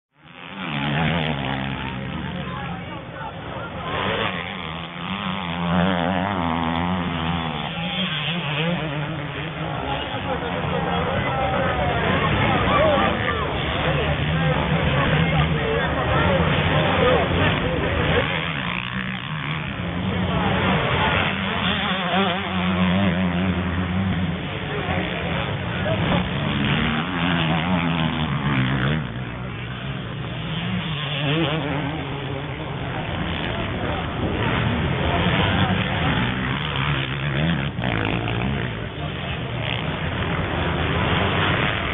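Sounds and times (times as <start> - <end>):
motorcycle engine revving: 0.1 - 41.9.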